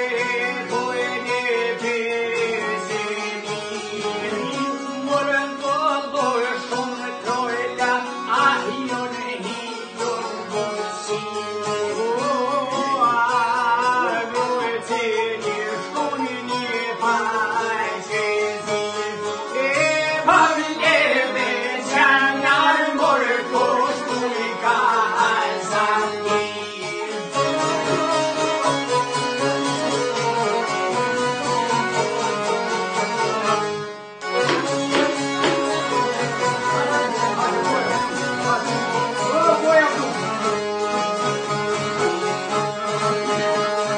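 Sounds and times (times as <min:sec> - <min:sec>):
accordion: 0:00.0 - 0:43.9
man singing with vibrato: 0:00.0 - 0:43.9
plucked lutes: 0:00.0 - 0:43.9.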